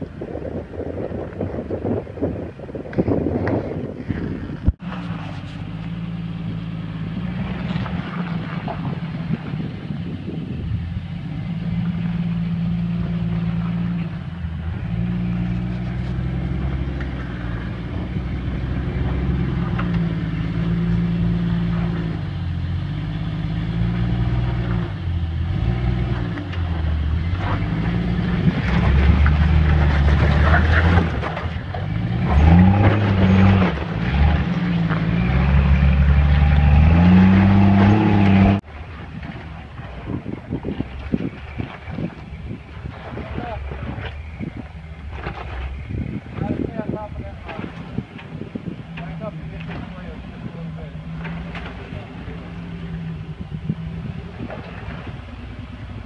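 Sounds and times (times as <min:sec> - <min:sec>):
engine revving under load: 0:04.7 - 0:56.0.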